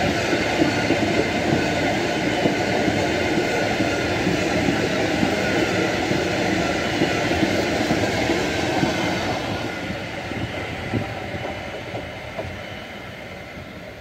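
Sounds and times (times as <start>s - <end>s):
train wheel clicks: 0.0s - 12.6s
train wagons rumbling on rails: 0.0s - 14.0s.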